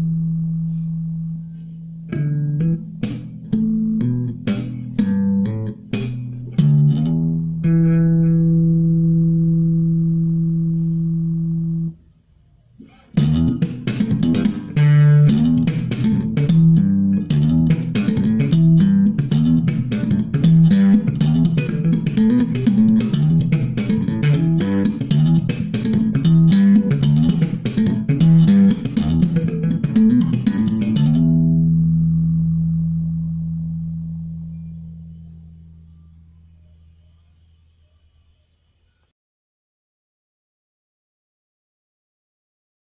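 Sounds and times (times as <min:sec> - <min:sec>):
slap bass guitar: 0:00.0 - 0:12.0, 0:12.8 - 0:36.6.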